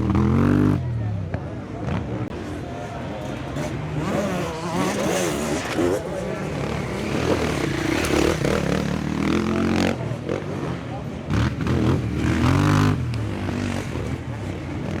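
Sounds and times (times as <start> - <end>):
motorcycle engines revving: 0.0 - 15.0
voices: 0.0 - 15.0.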